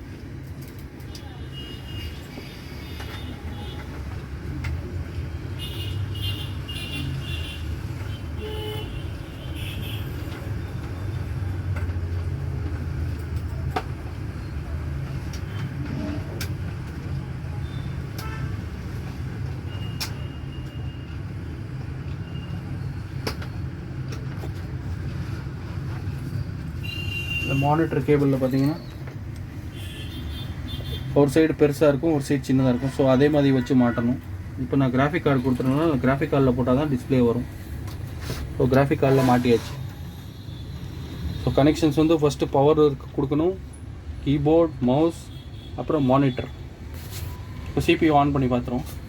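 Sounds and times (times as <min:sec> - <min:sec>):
road traffic rumble: 0:00.0 - 0:49.0.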